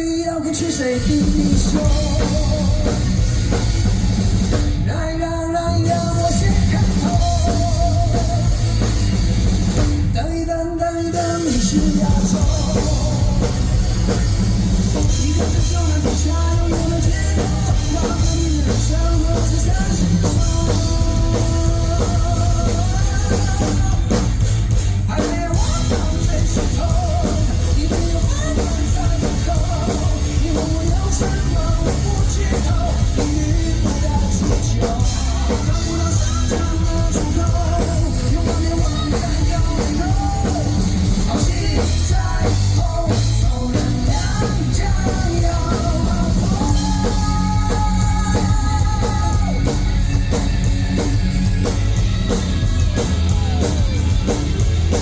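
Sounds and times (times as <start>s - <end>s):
rock band playing loudly: 0.0s - 55.0s.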